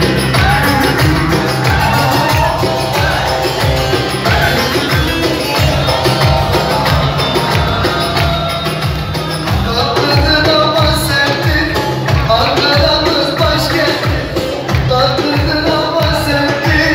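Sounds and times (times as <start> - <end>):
loud dance music: 0.0 - 16.9.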